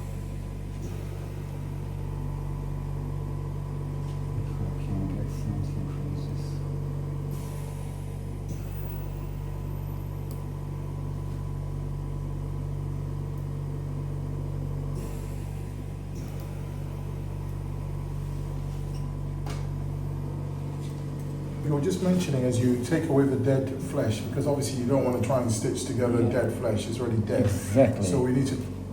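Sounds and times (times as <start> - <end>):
low machine hum: 0.0 - 28.9.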